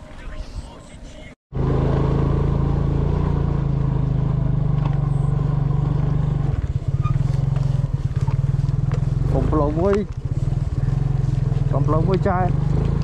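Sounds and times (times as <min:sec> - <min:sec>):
small motor engine running: 0:01.6 - 0:13.0.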